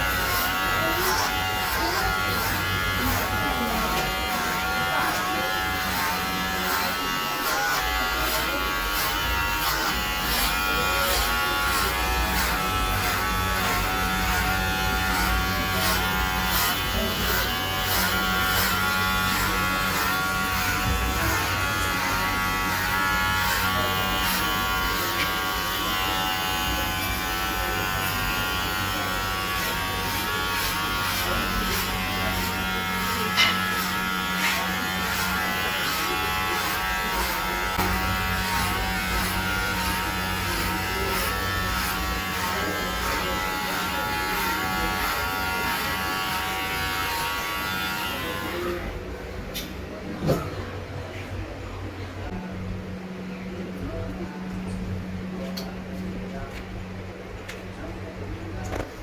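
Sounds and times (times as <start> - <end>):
electric hair clippers buzzing: 0.0 - 49.0.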